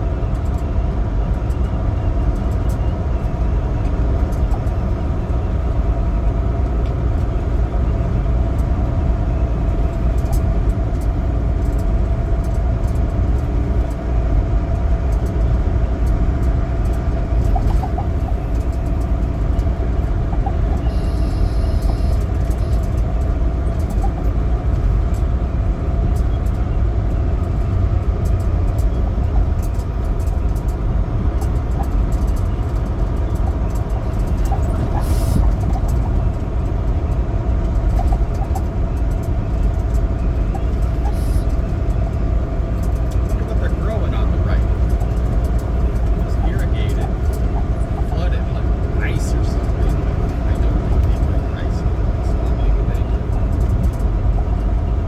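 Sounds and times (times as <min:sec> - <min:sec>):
truck diesel engine rumble: 0:00.0 - 0:55.0.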